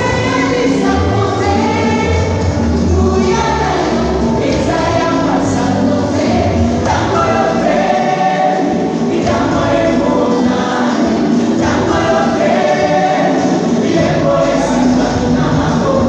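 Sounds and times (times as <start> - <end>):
gospel choir singing: 0.0 - 16.0.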